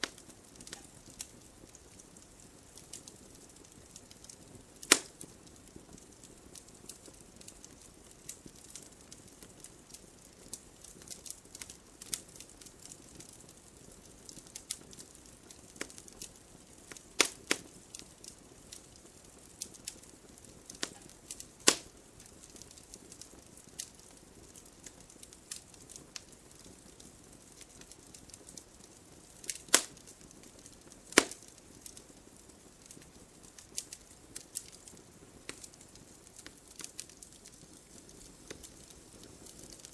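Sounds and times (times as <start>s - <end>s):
campfire crackling: 0.0s - 39.9s
campfire low hiss: 0.0s - 39.9s.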